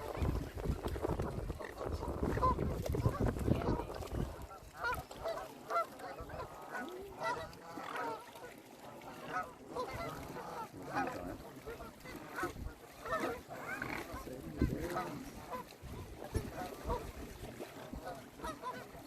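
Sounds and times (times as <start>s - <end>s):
swans honking: 0.0s - 19.0s.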